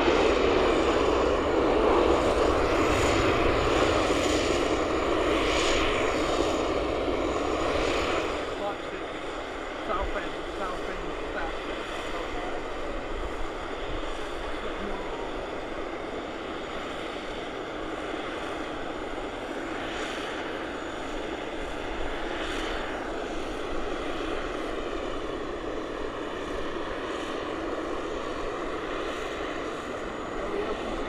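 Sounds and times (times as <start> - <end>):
aircraft engines rushing: 0.0 - 31.0
faint engine whine: 0.0 - 31.0.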